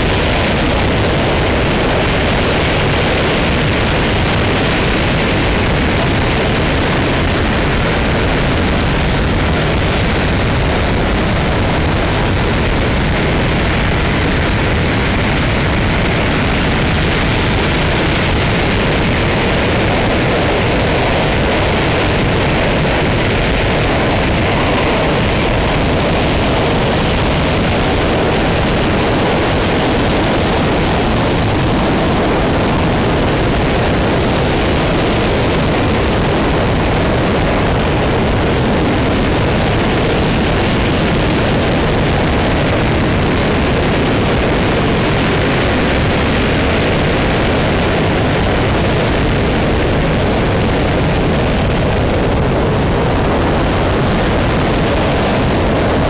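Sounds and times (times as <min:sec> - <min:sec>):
rocket engine roaring: 0:00.0 - 0:56.0.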